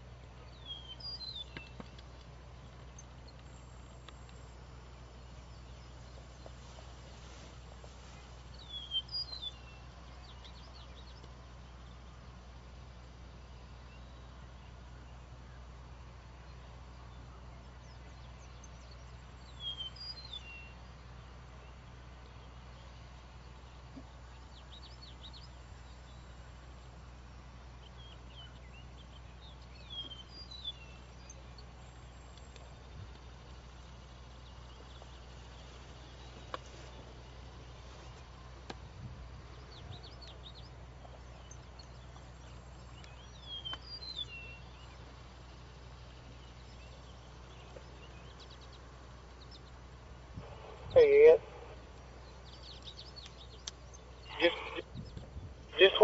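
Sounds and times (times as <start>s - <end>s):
low outdoor hum: 0.0s - 56.0s
small birds chirping: 0.0s - 56.0s.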